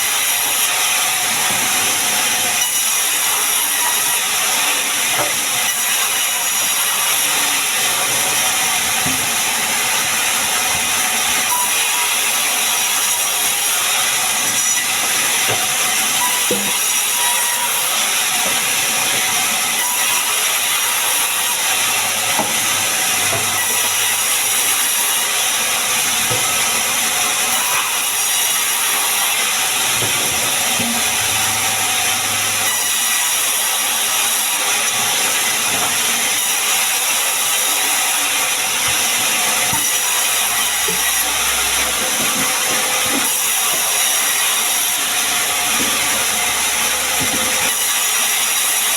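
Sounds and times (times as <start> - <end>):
sawmill saw cutting wood: 0.0 - 48.9.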